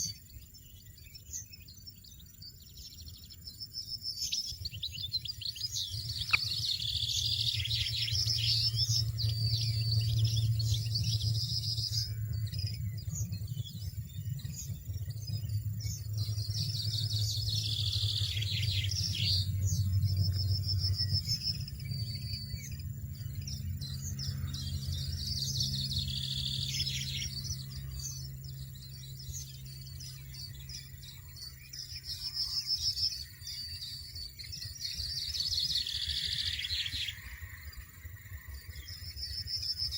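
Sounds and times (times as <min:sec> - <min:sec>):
goldfinches twittering: 0:00.0 - 0:39.9
low steady hum: 0:00.0 - 0:39.9.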